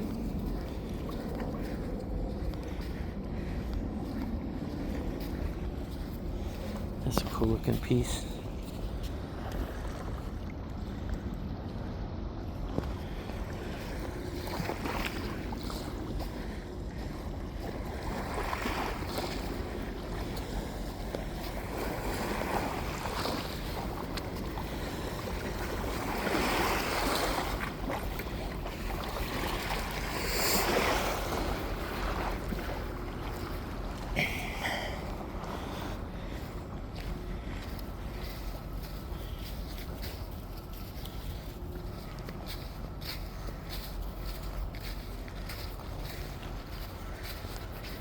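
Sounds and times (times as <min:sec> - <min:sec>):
waves washing onto beach: 0:00.0 - 0:11.9, 0:12.6 - 0:48.0
wind rumble on microphone: 0:00.0 - 0:48.0.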